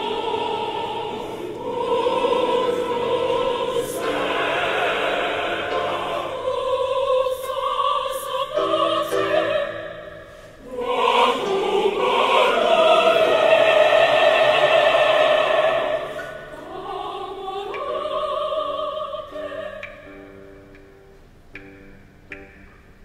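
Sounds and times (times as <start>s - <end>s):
choir singing sustained chords: 0.0s - 21.4s.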